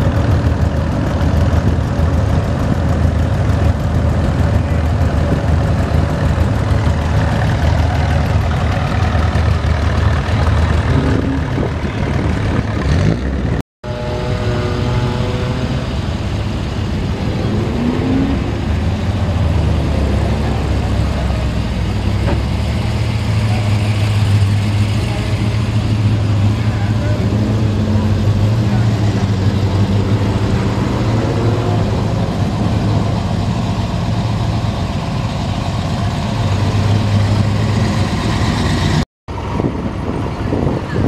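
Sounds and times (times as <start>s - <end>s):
car engines idling: 0.0s - 41.0s
engine revving: 4.3s - 41.0s.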